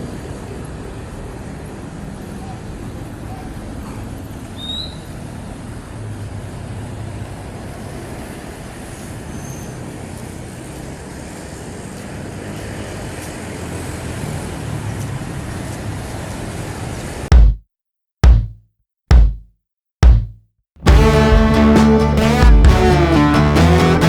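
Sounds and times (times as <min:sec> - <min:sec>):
road traffic hum: 0:00.0 - 0:17.3, 0:20.8 - 0:24.0.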